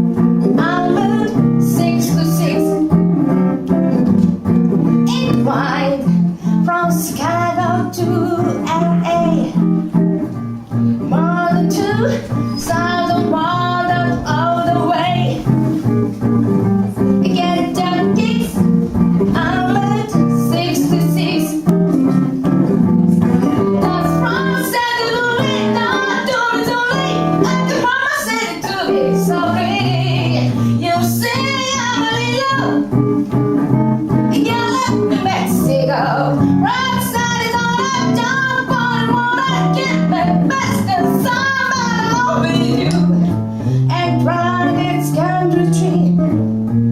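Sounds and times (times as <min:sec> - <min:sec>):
strummed guitar chords: 0:00.0 - 0:46.9
woman singing: 0:00.4 - 0:04.0, 0:05.0 - 0:10.0, 0:11.0 - 0:15.6, 0:17.0 - 0:22.2, 0:23.2 - 0:33.0, 0:34.3 - 0:46.4.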